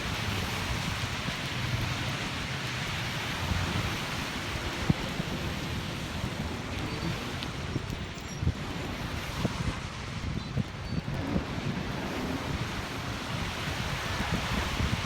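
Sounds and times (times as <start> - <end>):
steady rain falling: 0.0 - 15.0
wind rumbling on microphone: 0.0 - 15.0.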